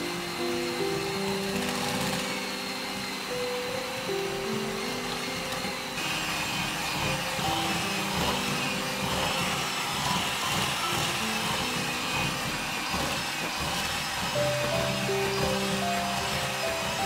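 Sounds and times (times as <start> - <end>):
background music: 0.0 - 17.0
electric hand mixer running: 0.0 - 17.0.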